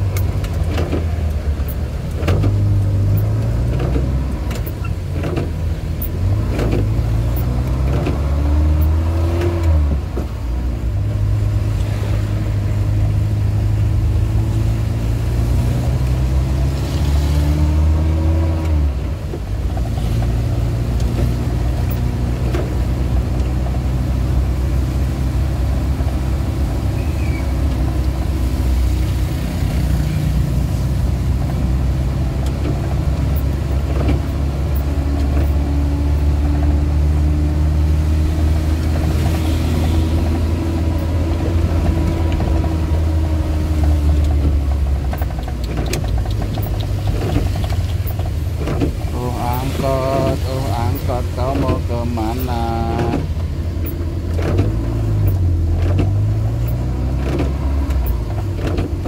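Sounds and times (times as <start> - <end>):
car engine on the move: 0.0 - 59.0
heavy rain and wet road hiss: 0.0 - 59.0.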